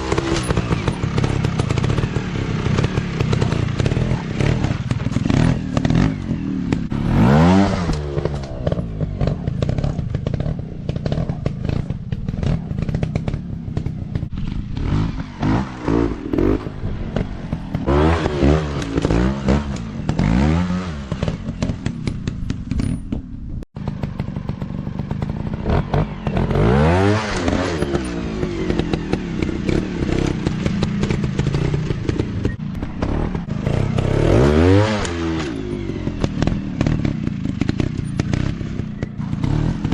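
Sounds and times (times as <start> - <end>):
dirt bike engines revving: 0.0 - 23.0, 23.8 - 39.9.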